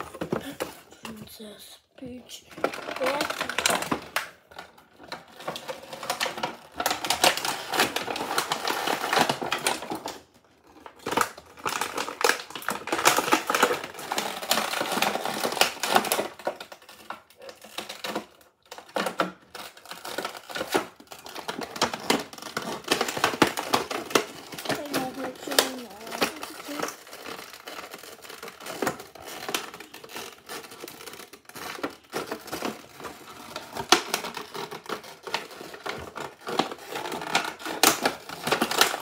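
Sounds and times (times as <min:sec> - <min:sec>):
plastic packaging crinkling: 0:00.0 - 0:39.0.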